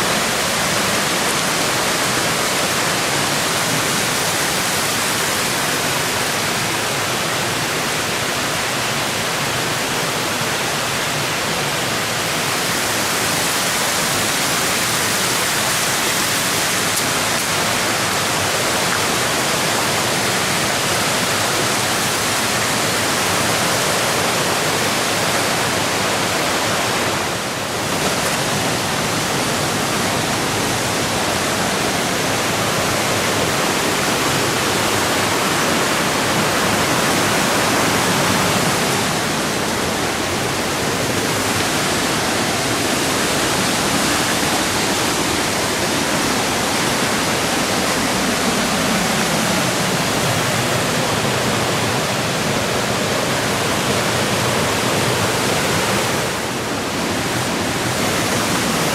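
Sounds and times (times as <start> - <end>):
stream water rushing: 0.0 - 58.9.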